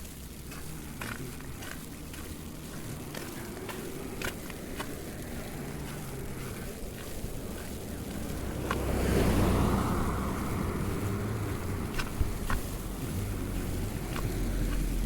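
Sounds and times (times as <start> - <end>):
light ticks and crackles: 0.0 - 15.0
traffic rumble: 0.0 - 15.0
wind: 0.0 - 15.0.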